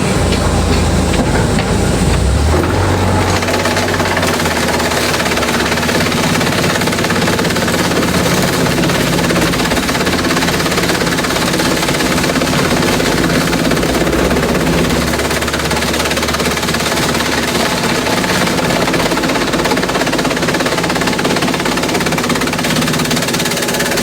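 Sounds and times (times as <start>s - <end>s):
low motor hum: 0.0s - 21.9s
shredder clattering: 0.0s - 24.0s.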